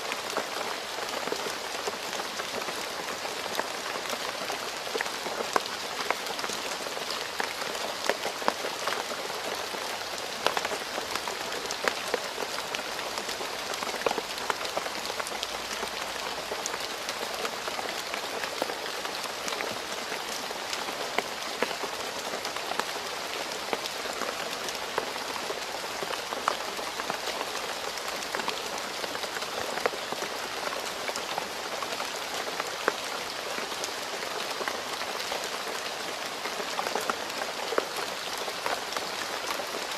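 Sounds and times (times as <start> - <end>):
rain falling on a road: 0.0 - 39.9.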